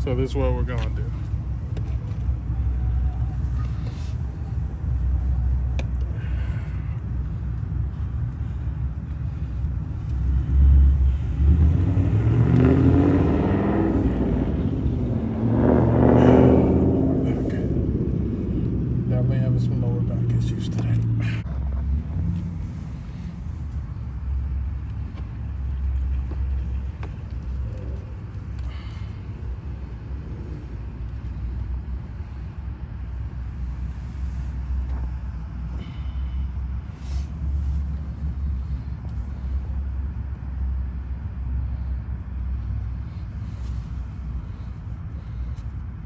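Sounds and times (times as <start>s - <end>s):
low vehicle rumble: 0.0s - 46.0s.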